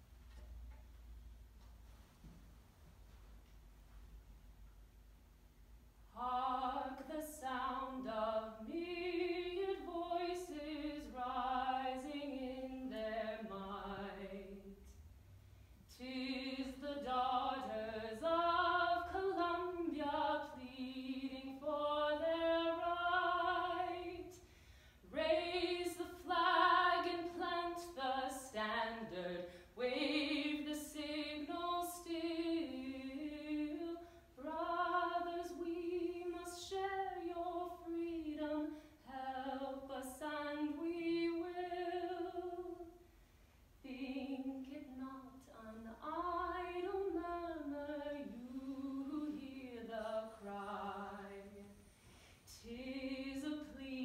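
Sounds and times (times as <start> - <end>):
woman singing: 6.2 - 14.8, 15.9 - 24.4, 25.1 - 43.0, 43.8 - 51.7, 52.5 - 54.0.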